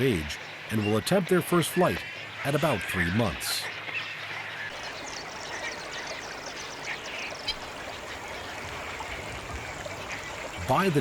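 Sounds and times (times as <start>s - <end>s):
background noise wash: 0.0s - 11.0s
waterbird colony chirping: 0.0s - 11.0s.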